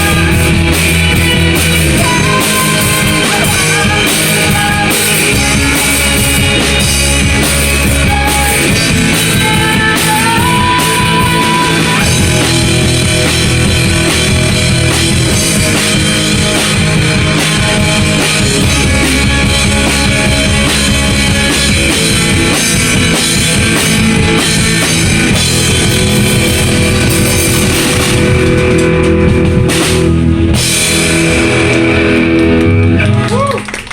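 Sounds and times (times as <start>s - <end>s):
drum kit with cymbals: 0.0s - 32.6s
electric guitar: 0.0s - 33.9s
rock band playing live: 0.0s - 33.9s.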